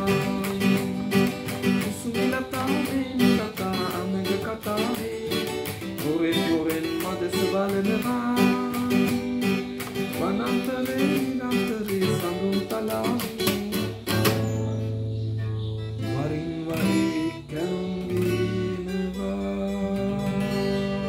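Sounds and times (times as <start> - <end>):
acoustic guitar strumming and picking: 0.0 - 21.0.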